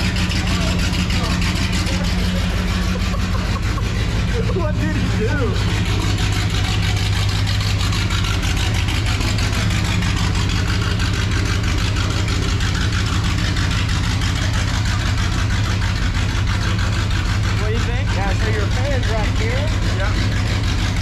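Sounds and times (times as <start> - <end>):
race car engine idling loudly: 0.0 - 21.0.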